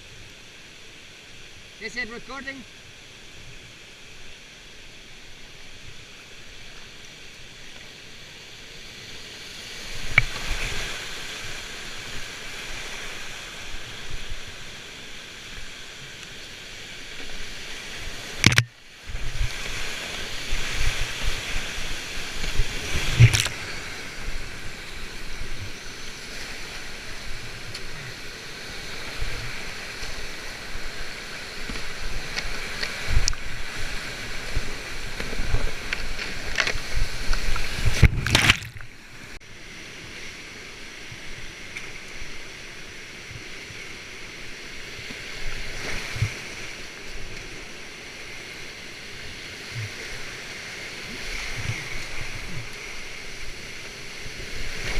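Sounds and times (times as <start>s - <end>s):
rushing whitewater: 0.0s - 54.9s.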